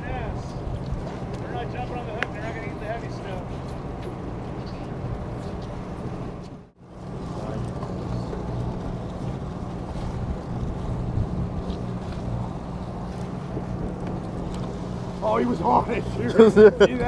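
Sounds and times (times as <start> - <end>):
wind noise on microphone: 0.0 - 15.3
boat engine humming: 0.0 - 17.0.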